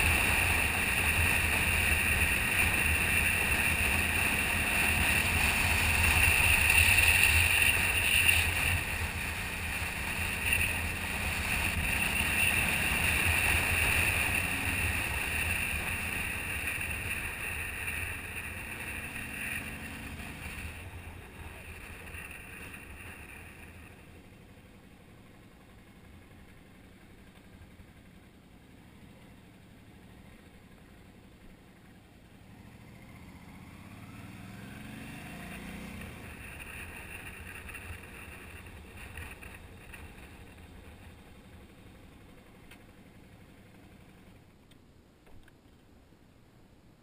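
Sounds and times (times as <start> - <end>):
motorcycle engine rumble: 0.0 - 46.4.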